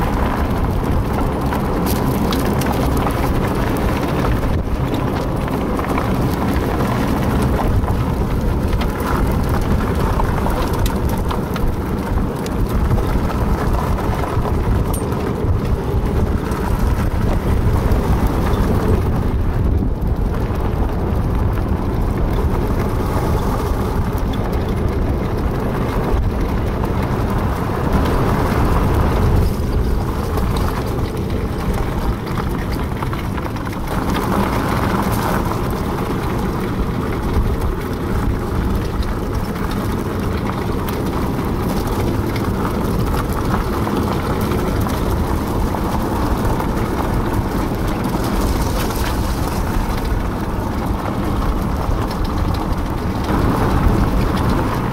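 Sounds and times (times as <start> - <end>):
cart wheels rolling on gravel: 0.0 - 54.9.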